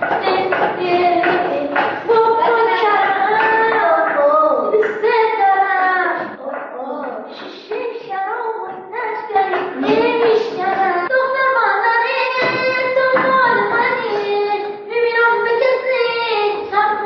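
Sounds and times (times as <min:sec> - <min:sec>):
child singing: 0:00.0 - 0:17.0.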